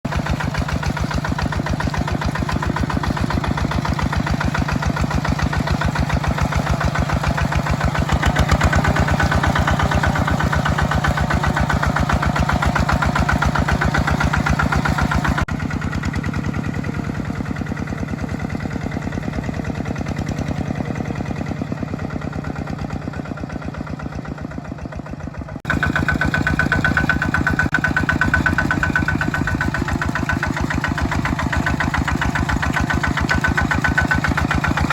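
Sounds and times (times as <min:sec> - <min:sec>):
tractor engine knocking: 0:00.0 - 0:34.9.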